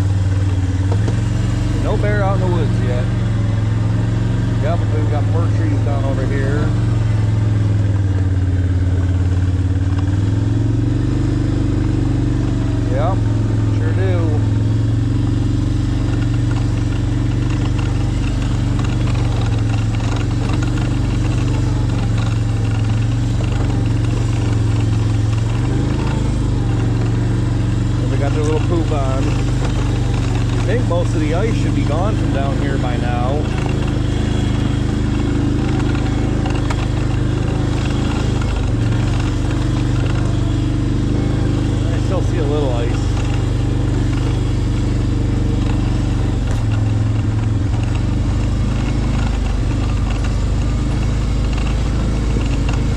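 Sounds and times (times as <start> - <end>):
engine droning: 0.0 - 52.9.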